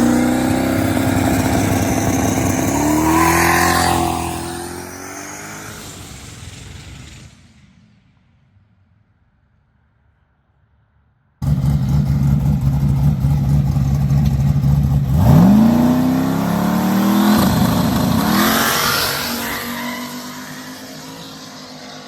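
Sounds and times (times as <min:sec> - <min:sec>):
drag car engine revving: 0:00.0 - 0:07.4, 0:11.4 - 0:22.0.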